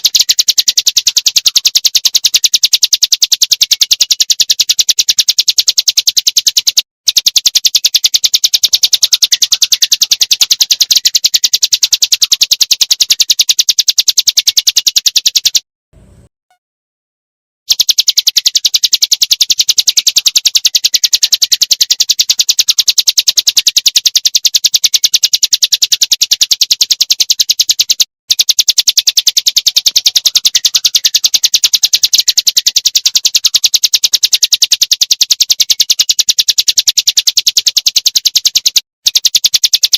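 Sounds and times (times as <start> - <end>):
bird rattling call: 0.0 - 15.6, 17.7 - 34.6.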